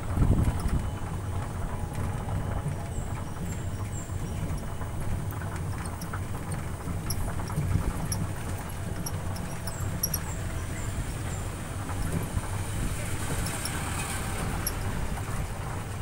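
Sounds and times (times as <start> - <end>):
vehicle rumbling on road: 0.0 - 16.0.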